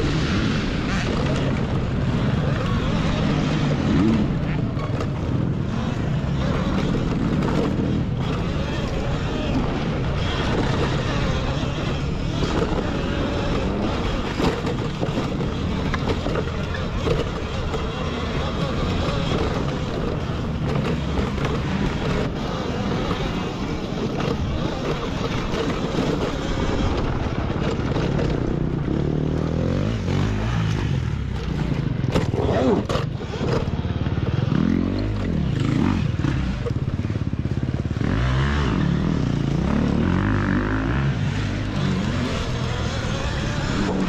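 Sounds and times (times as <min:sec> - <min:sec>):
dirt bike engines running: 0:00.0 - 0:44.0
engine revving: 0:00.0 - 0:44.0.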